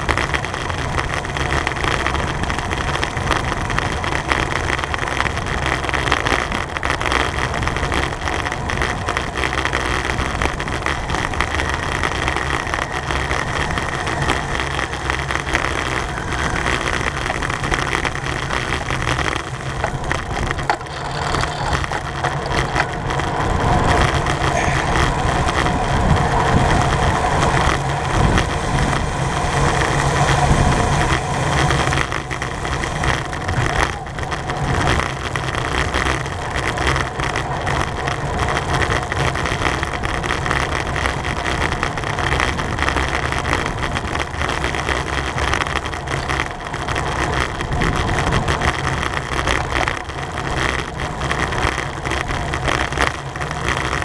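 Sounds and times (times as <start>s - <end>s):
bicycle tyre hum: 0.0s - 54.0s
drivetrain whirr: 0.0s - 54.0s
wind on microphone: 0.0s - 54.0s.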